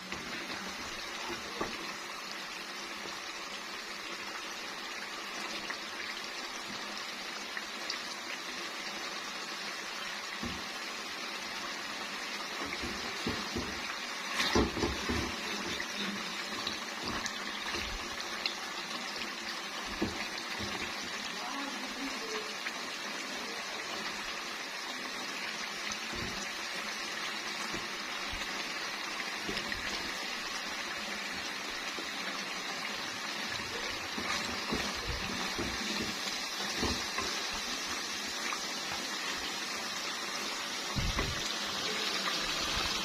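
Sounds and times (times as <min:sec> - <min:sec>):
frying sizzle with pops: 0:00.0 - 0:43.0.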